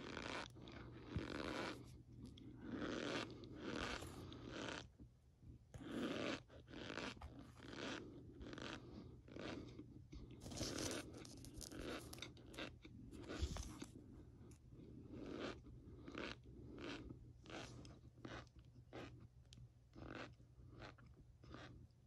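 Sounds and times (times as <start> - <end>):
spoon scooping crunching powder: 0.0 - 4.9, 5.8 - 19.2, 20.0 - 21.8.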